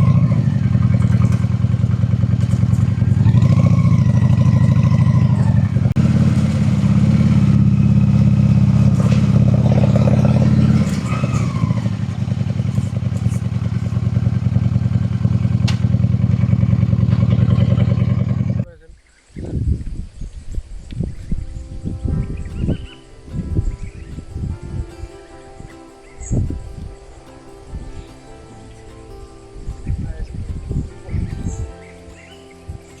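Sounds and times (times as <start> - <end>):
motorcycle engine running: 0.0 - 18.7, 21.3 - 33.0.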